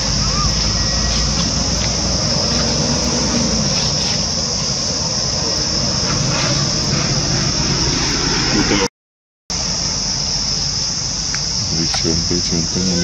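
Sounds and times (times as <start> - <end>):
insects droning: 0.0 - 8.9, 9.5 - 13.0.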